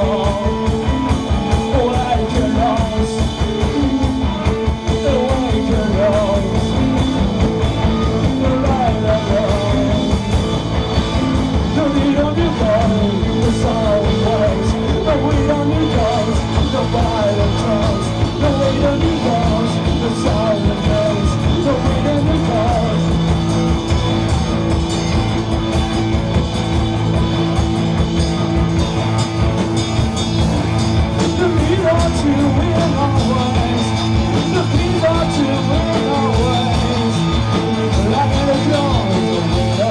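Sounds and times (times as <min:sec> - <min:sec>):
bass guitar: 0:00.0 - 0:39.9
drums fast busy beat: 0:00.0 - 0:39.9
electric guitars: 0:00.0 - 0:39.9
wavering lead guitar line: 0:00.0 - 0:39.9.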